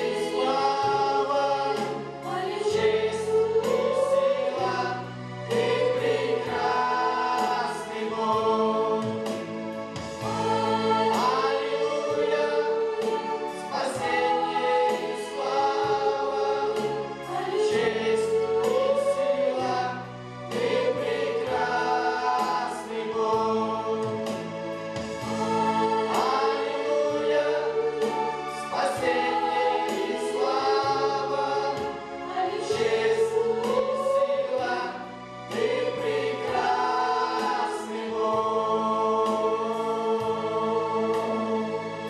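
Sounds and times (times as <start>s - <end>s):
mixed choir singing: 0.0s - 42.0s
sustained accompaniment chords: 0.0s - 42.0s.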